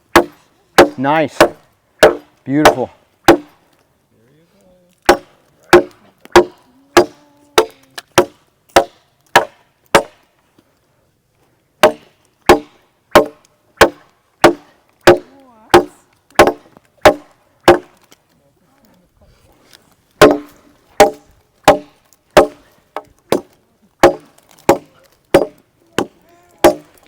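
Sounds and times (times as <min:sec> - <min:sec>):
machete chopping into log: 0:00.1 - 0:03.6, 0:05.0 - 0:10.2, 0:11.8 - 0:18.1, 0:20.2 - 0:27.0.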